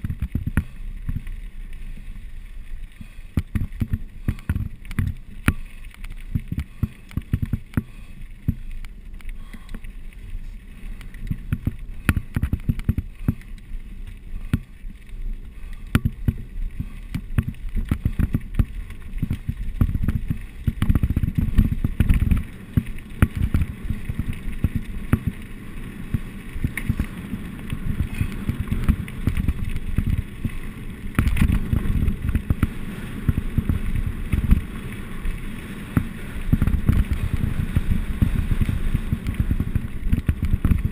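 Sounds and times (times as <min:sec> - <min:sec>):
bike rattling and knocking: 0:00.0 - 0:02.2, 0:02.8 - 0:10.3, 0:11.0 - 0:15.0, 0:15.7 - 0:40.9
bike tyres rumbling: 0:00.0 - 0:40.9.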